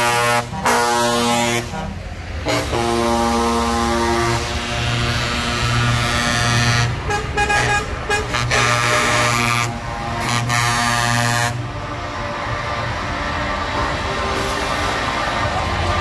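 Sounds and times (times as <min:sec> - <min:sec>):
diesel truck engines passing: 0:00.0 - 0:16.0
truck air horns blasting: 0:00.0 - 0:16.0.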